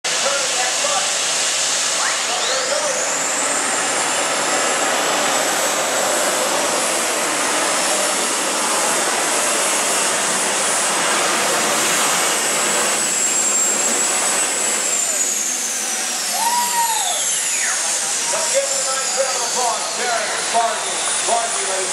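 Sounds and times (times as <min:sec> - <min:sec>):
exhaust rush: 0:00.1 - 0:21.9
turbine engine whine: 0:00.1 - 0:21.9.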